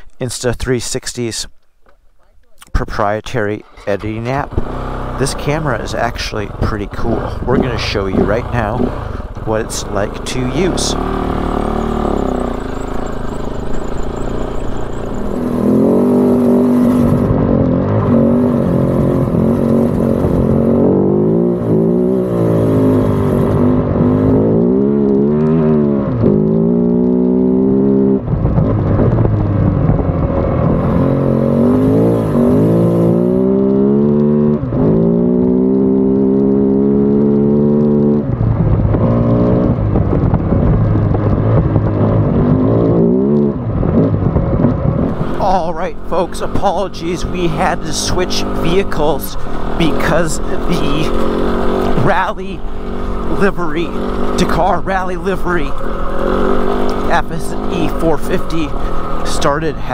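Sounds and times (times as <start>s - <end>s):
motorcycle engine revving: 3.4s - 59.9s.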